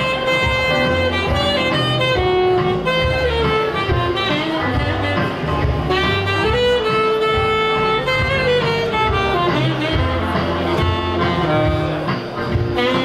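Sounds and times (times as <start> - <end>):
alto saxophone melody: 0.0 - 13.0
keyboard: 0.0 - 13.0
plucked upright bass: 0.0 - 13.0.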